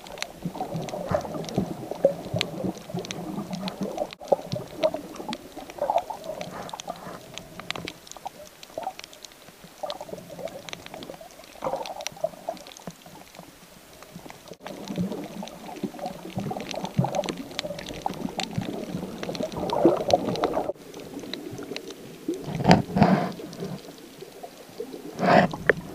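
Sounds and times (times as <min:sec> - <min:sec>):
faint clicks: 0:00.0 - 0:25.9
underwater sloshing and gurgling: 0:00.0 - 0:25.9.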